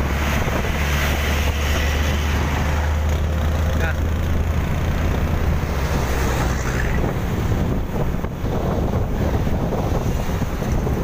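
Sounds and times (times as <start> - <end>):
road and engine noise: 0.0 - 11.0
wind rushing over microphone: 0.0 - 11.0.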